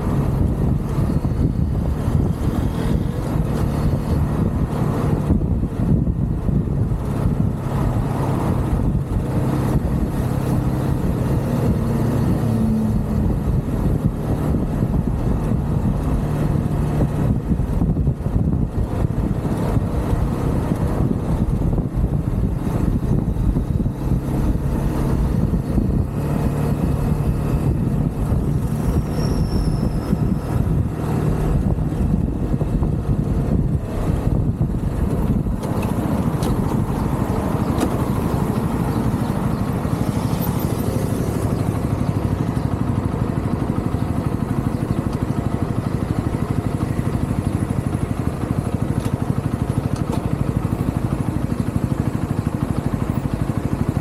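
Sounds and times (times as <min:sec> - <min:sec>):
motorcycle engine running: 0:00.0 - 0:54.0
wind and road rush: 0:00.0 - 0:54.0.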